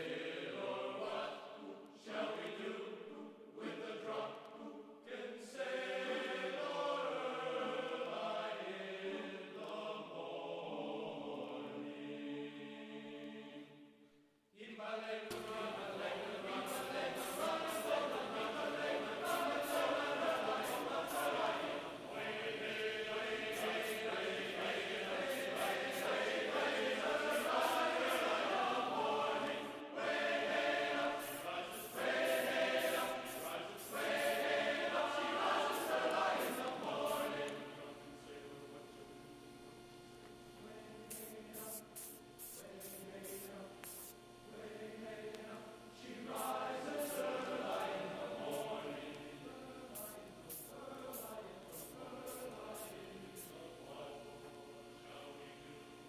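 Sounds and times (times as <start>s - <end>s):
choir-like chanting music: 0.0s - 38.5s, 40.6s - 54.4s.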